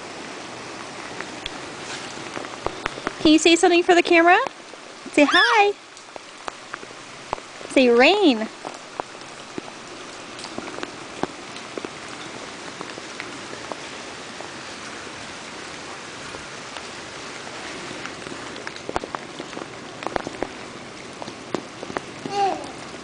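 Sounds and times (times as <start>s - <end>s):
steady rain falling: 0.0s - 23.0s
sharp raindrop taps: 0.8s - 23.0s.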